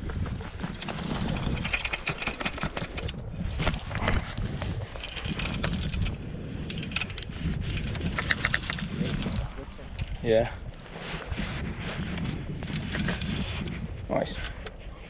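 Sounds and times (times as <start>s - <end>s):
wind buffeting: 0.0s - 15.0s.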